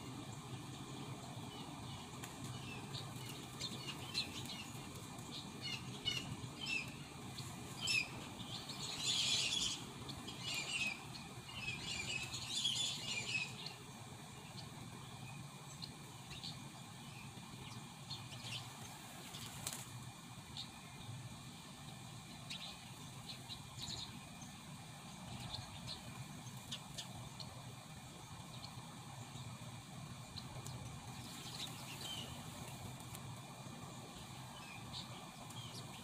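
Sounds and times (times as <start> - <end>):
low steady background noise: 0.0 - 36.0
songbirds chirping: 0.0 - 36.0.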